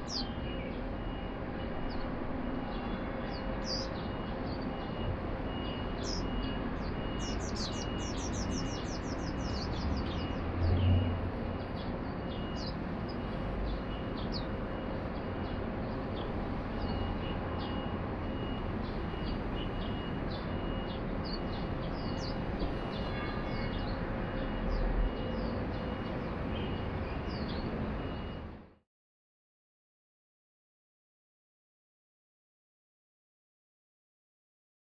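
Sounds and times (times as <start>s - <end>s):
birds chirping: 0.0s - 28.4s
city traffic hum: 0.0s - 28.8s.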